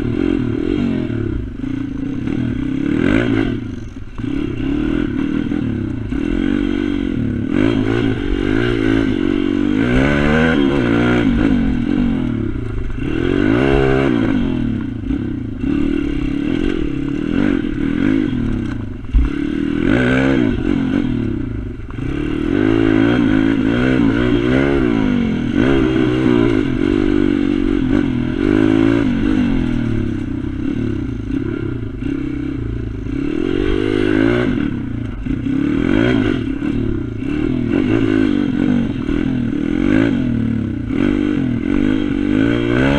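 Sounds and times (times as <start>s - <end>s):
pit bike engine revving: 0.0s - 42.9s.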